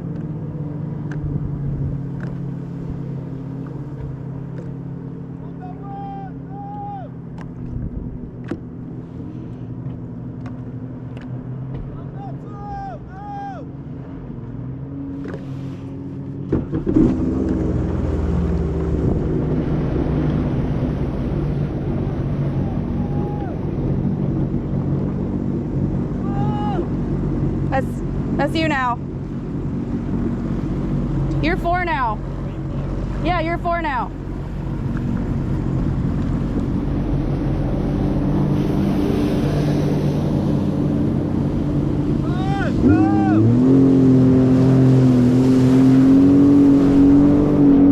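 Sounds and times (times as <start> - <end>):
water and wind hiss: 0.0 - 11.0, 15.0 - 47.9
jet ski engine running: 0.0 - 47.9.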